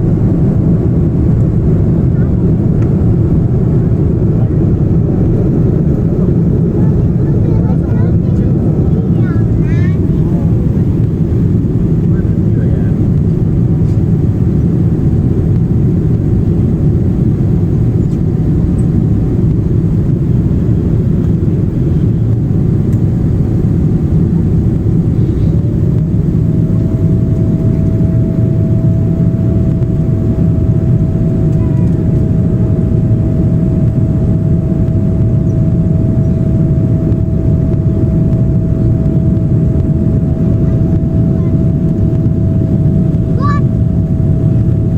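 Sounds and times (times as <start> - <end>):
airliner cabin engine roar: 0.0 - 44.9
faint steady whine: 0.0 - 44.9.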